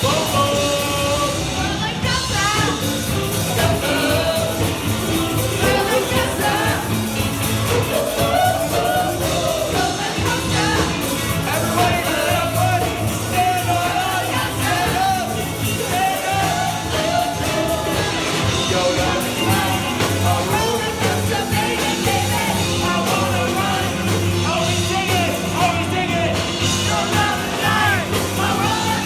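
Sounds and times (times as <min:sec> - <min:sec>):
person singing lead vocal: 0:00.0 - 0:29.0
rock band playing: 0:00.0 - 0:29.0.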